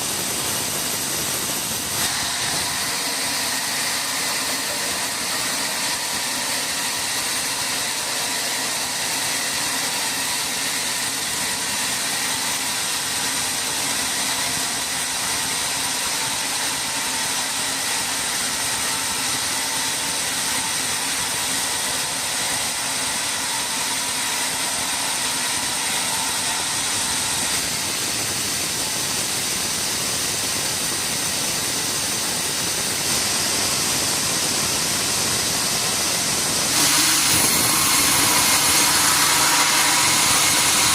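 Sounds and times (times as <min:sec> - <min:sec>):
sawmill machinery hissing and whining: 0:00.0 - 0:40.9.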